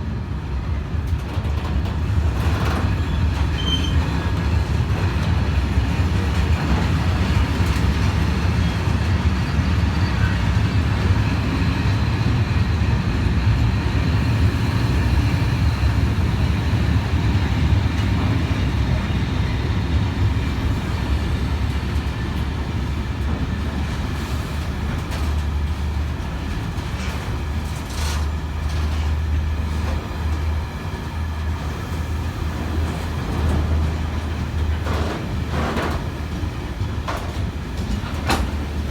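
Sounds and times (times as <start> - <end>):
diesel train engine drone: 0.0 - 38.9
train wheels rolling on rails: 0.0 - 38.9.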